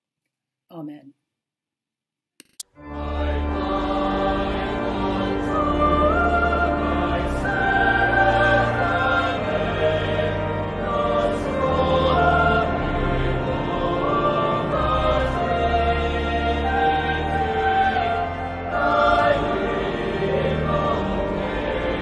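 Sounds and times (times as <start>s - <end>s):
choir holding long notes: 2.8s - 22.0s.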